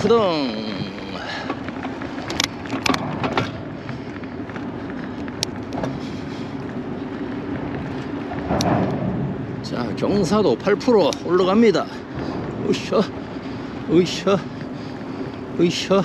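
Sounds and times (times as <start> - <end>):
bicycle rolling on asphalt: 0.0 - 16.0
trailer clicks and rattles: 0.0 - 16.0.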